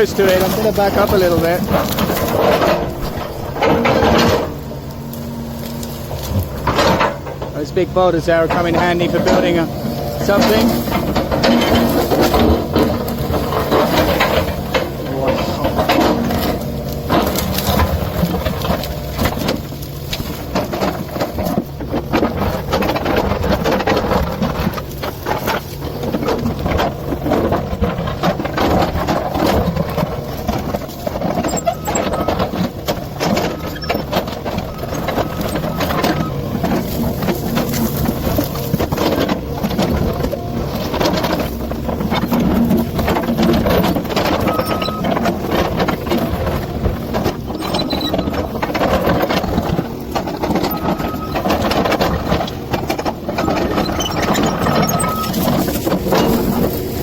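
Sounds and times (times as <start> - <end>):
excavator engine running: 0.0 - 57.0
wood and rock cracking: 0.0 - 57.0.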